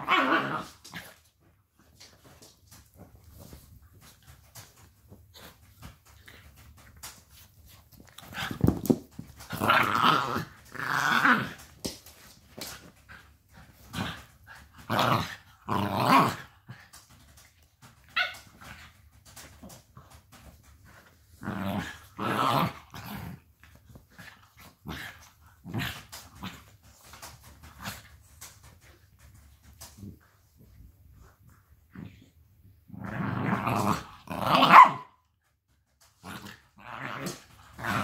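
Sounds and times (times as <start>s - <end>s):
dogs growling while play-fighting: 0.0s - 7.2s, 8.0s - 29.3s, 29.9s - 35.0s, 36.2s - 38.0s.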